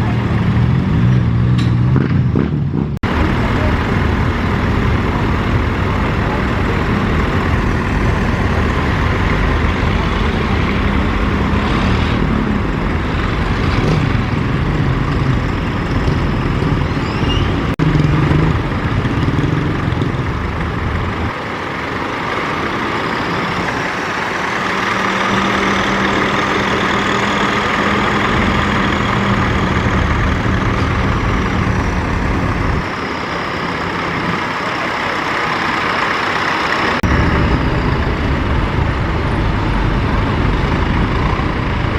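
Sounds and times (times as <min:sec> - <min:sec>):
tractor engines running hard: 0:00.0 - 0:41.9.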